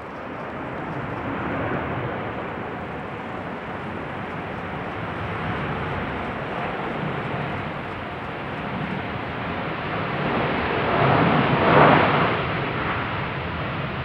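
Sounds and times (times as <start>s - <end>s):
jet engines rushing: 0.0s - 14.0s.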